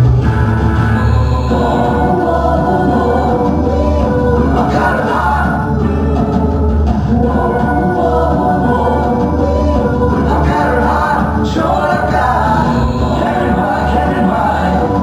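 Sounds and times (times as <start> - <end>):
recorded music with bass line: 0.0 - 15.0
voices singing: 0.0 - 15.0.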